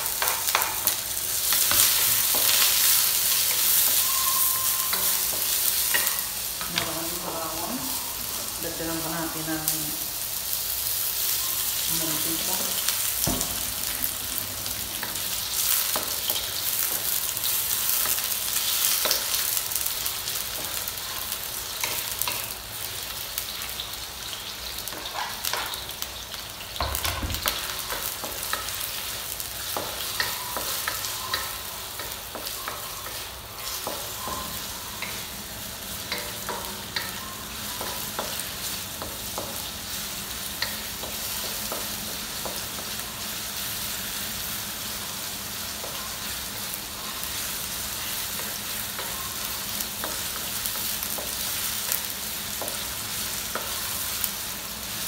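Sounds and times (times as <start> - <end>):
onions sizzling in oil: 0.0 - 55.0.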